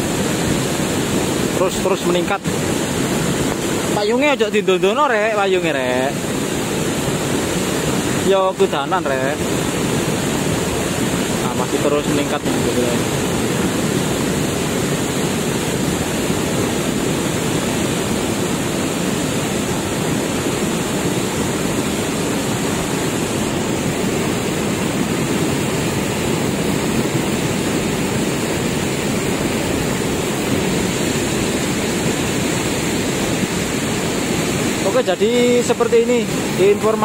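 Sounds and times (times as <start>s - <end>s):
mudflow torrent rushing: 0.0s - 37.0s.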